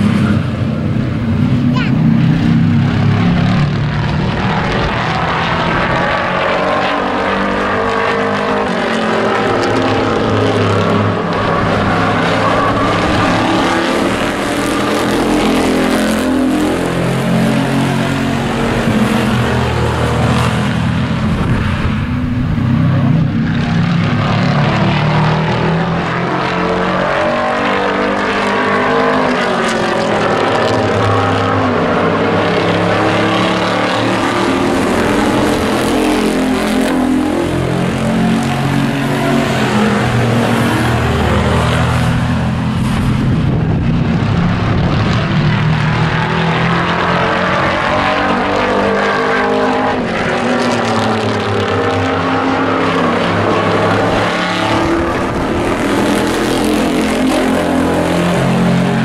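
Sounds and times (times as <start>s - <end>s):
race truck engines: 0.0s - 59.0s.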